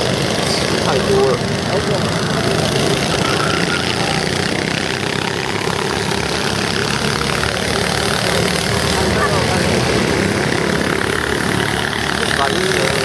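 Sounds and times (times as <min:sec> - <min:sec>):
go-kart engines running: 0:00.0 - 0:13.0.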